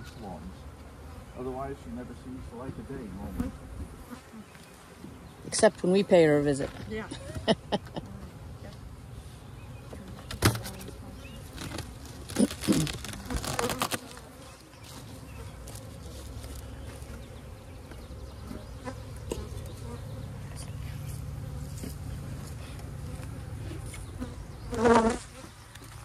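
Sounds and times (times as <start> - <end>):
bees buzzing: 0.1 - 26.0.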